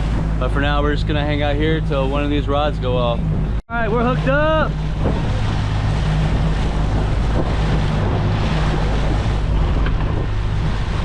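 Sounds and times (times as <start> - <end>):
boat engine humming: 0.0 - 11.0
water washing: 0.0 - 11.0
wind noise on microphone: 0.0 - 11.0.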